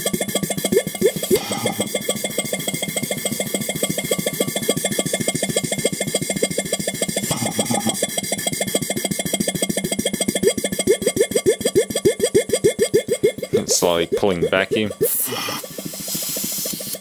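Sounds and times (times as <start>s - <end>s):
compressor pulsing: 0.0s - 17.0s.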